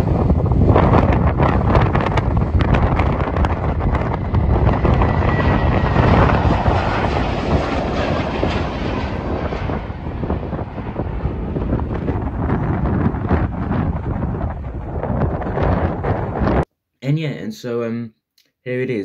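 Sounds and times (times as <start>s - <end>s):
jet engines roaring: 0.0s - 16.6s.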